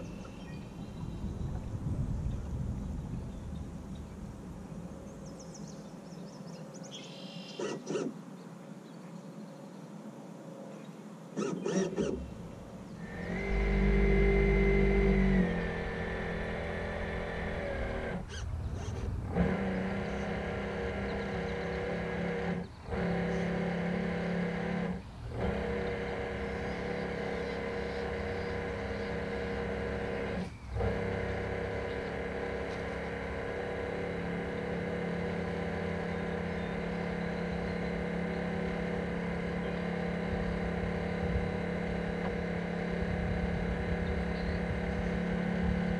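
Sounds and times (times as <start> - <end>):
model ship motor whining: 0.0 - 5.7, 7.5 - 8.2, 11.4 - 45.9.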